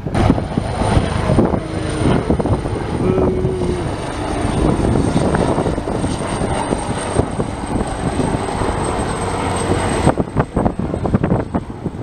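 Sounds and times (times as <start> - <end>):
helicopter rotor and turbines running: 0.0 - 12.0.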